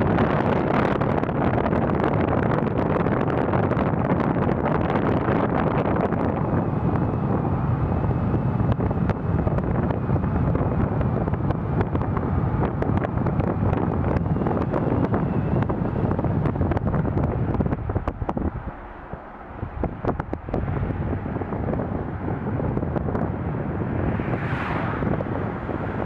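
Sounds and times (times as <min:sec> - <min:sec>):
vehicle driving on road: 0:00.0 - 0:26.0
wind buffeting microphone: 0:00.0 - 0:26.0.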